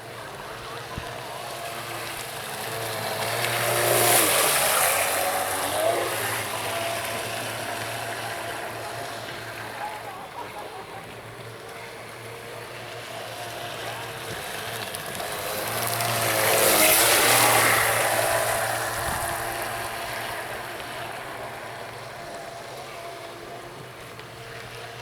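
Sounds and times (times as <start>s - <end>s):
model boat motor humming: 0.0s - 25.0s.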